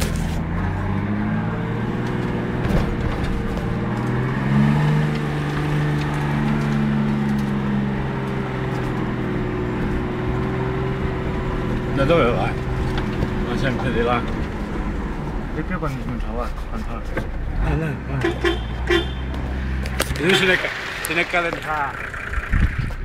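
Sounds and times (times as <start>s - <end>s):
engine revving under load: 0.0s - 16.5s, 17.2s - 23.0s.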